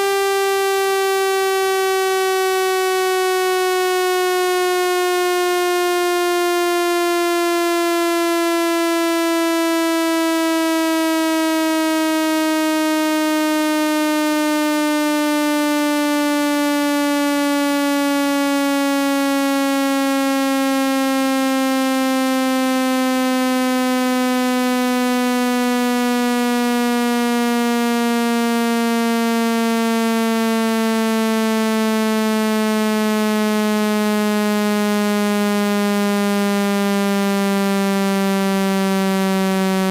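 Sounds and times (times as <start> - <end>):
buzzy tone falling in pitch: 0.0 - 39.9.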